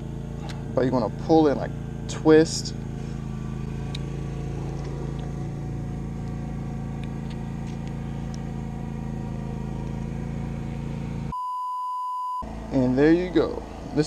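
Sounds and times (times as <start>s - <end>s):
motor humming: 0.0s - 11.4s, 12.4s - 14.0s.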